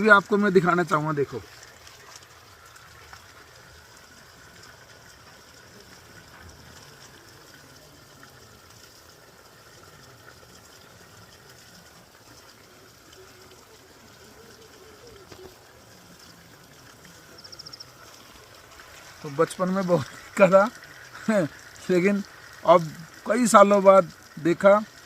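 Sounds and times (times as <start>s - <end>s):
faint outdoor background hiss: 0.0s - 25.0s.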